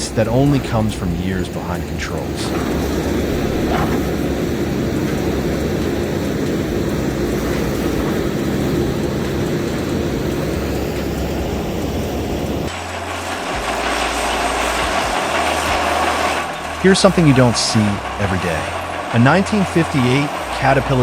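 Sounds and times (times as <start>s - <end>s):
backhoe diesel engine digging: 0.0s - 21.0s
deep low engine hum: 0.0s - 21.0s.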